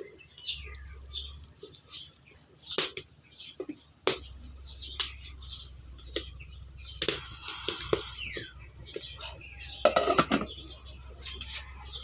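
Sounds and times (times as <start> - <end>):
birds chirping: 0.0 - 12.0
insects droning high-pitched: 0.0 - 12.0.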